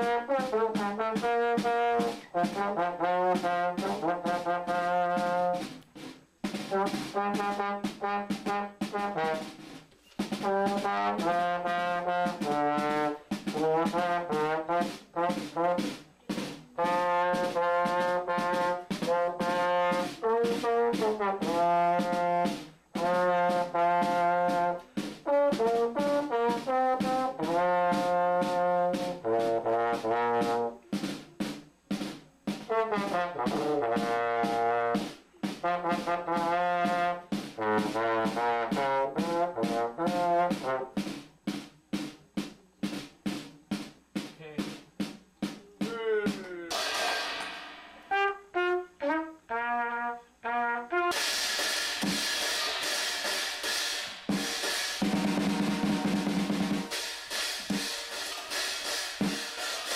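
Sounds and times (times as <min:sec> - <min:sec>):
brass instrument melody: 0:00.0 - 0:31.0, 0:32.5 - 0:41.2, 0:46.7 - 0:59.9.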